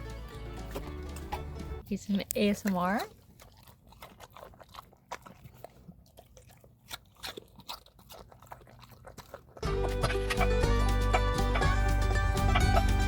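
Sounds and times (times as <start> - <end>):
dog chewing crunchy treat: 0.0 - 10.6.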